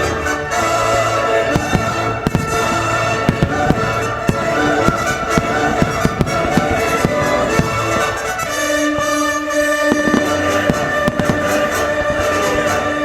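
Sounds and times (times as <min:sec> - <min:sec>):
firework shells bursting: 0:00.0 - 0:13.0
orchestral music with strings: 0:00.0 - 0:13.0.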